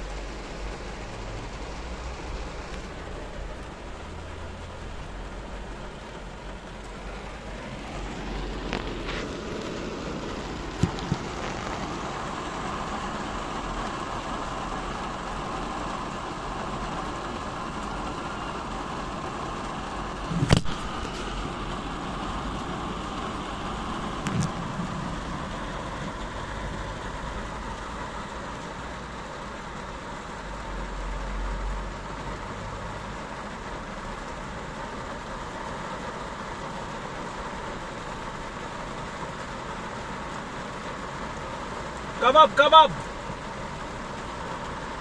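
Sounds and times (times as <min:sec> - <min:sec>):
heavy rain on a car roof: 0:00.0 - 0:45.0.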